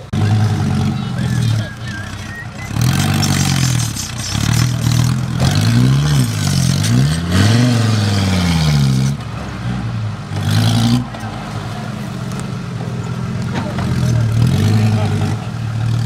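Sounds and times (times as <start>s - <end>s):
offroad vehicle engine revving: 0.0s - 16.0s
wheels spinning and throwing dirt: 0.0s - 16.0s.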